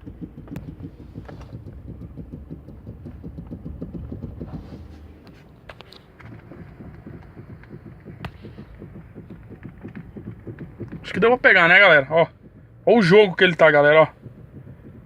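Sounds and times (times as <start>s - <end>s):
steering column knocking: 0.0s - 15.0s.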